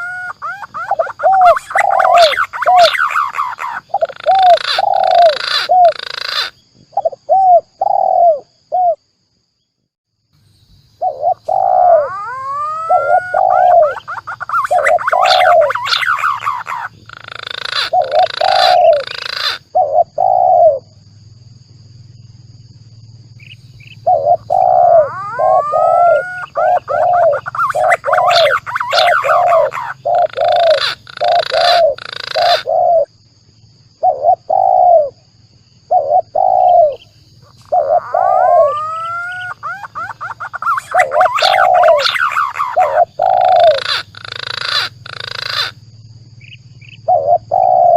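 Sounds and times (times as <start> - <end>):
dove cooing: 0.0 - 9.0, 11.0 - 20.9, 23.4 - 33.1, 34.0 - 35.2, 35.9 - 45.8, 47.0 - 47.9
pigeon whistled calls: 0.0 - 9.0, 11.0 - 20.8, 24.0 - 33.1, 36.0 - 45.8, 47.0 - 47.9.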